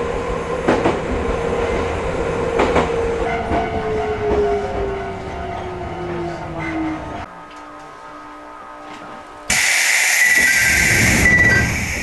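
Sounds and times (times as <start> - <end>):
low train rumble: 0.0 - 12.0.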